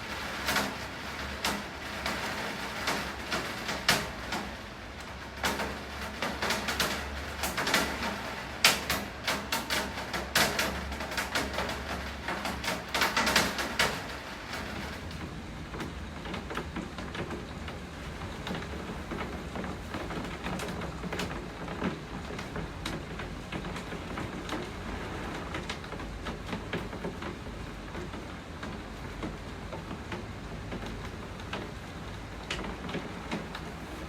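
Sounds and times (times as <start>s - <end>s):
steady rainfall: 0.0s - 34.0s
raindrops tapping hard surface: 0.1s - 34.0s.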